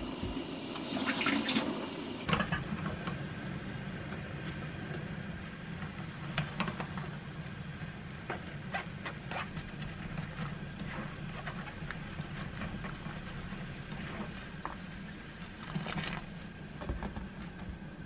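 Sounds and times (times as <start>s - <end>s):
steady low hum: 2.0s - 18.0s.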